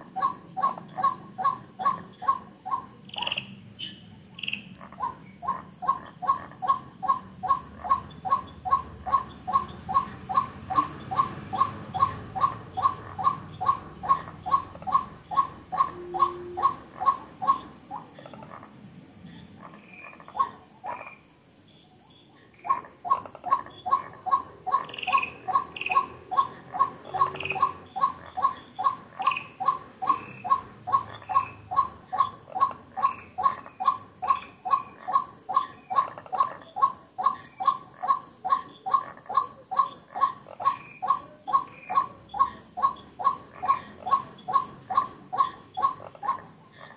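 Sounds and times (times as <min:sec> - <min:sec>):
waterhen croaking call: 0:00.0 - 0:18.8, 0:19.5 - 0:21.2, 0:22.6 - 0:46.9
small birds chirping faintly: 0:00.0 - 0:46.9.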